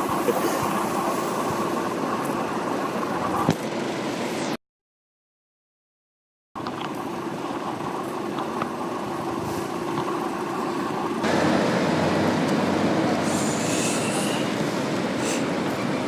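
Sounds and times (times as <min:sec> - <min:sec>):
street traffic rumble: 0:00.0 - 0:04.6, 0:06.6 - 0:16.0.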